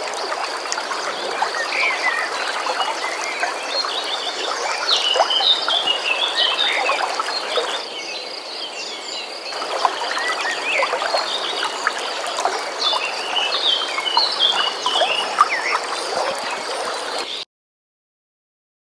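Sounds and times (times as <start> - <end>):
trickling water: 0.0 - 8.0, 8.9 - 17.4
birds chirping: 0.0 - 17.4.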